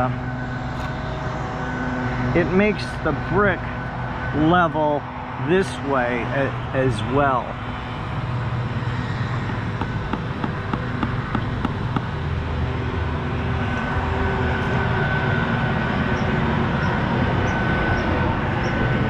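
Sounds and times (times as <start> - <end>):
hum of traffic and machinery: 0.0 - 19.0.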